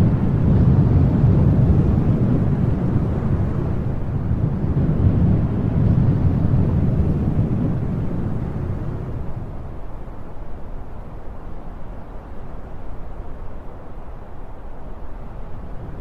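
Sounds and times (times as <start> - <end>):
wind blowing: 0.0 - 11.8, 14.7 - 16.0.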